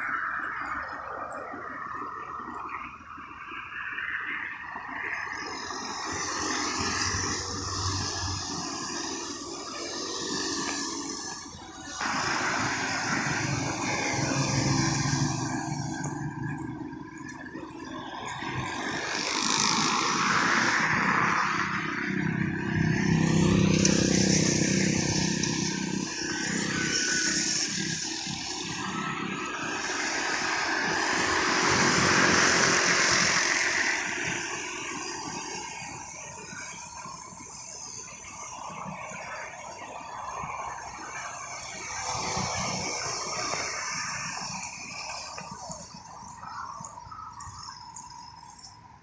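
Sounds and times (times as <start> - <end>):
vehicles passing: 0.0 - 49.0.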